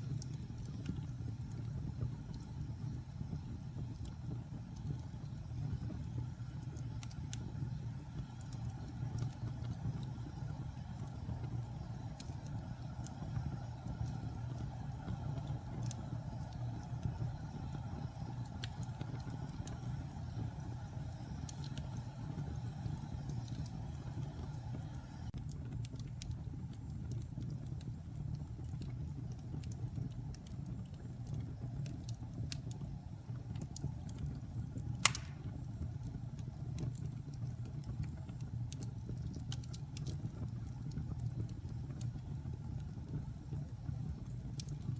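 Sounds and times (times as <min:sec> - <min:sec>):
campfire crackles and pops: 0:00.0 - 0:44.9
low fire rumble: 0:00.0 - 0:44.9.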